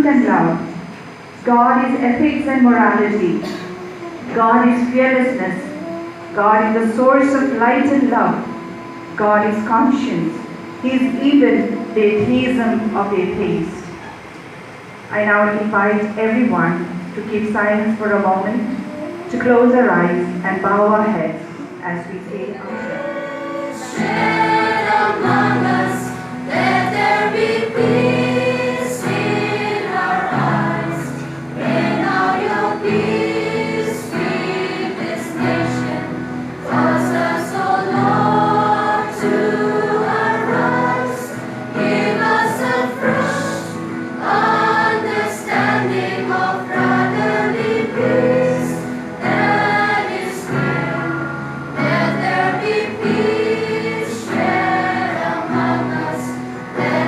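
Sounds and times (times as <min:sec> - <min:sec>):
choir singing a hymn: 0:00.0 - 0:14.0, 0:17.5 - 0:57.0.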